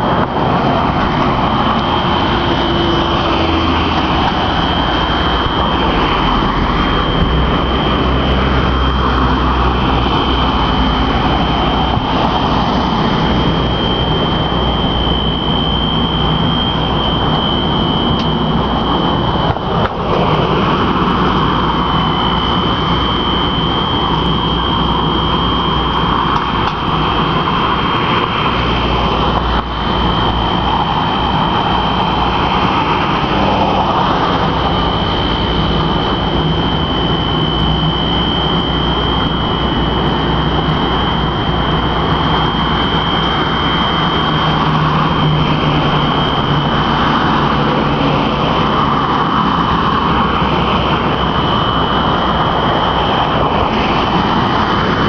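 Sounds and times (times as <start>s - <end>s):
fire alarm ringing: 0.0s - 55.0s.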